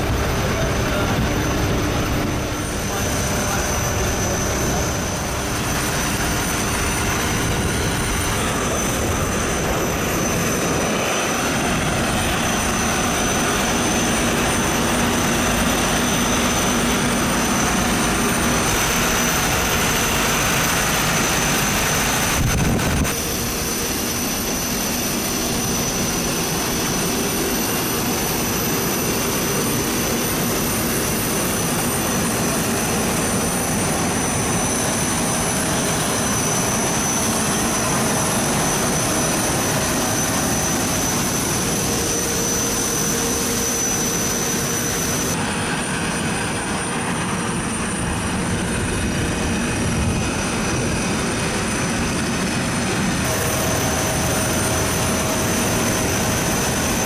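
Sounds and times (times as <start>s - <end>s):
jet engine noise in cockpit: 0.0s - 57.0s.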